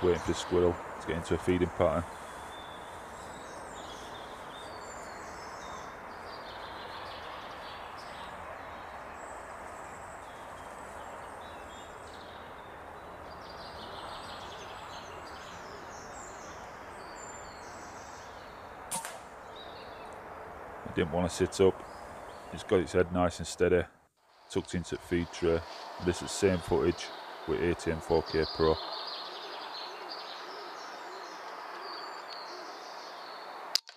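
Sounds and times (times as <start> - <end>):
songbirds singing: 0.0 - 23.8, 24.4 - 33.8
steady background hiss: 0.0 - 33.8.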